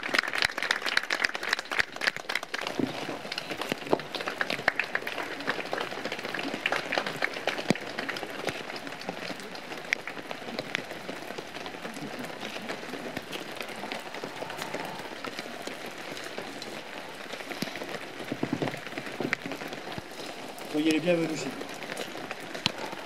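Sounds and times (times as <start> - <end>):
raindrops ticking: 0.0 - 23.0
steady rain hiss: 0.0 - 23.0.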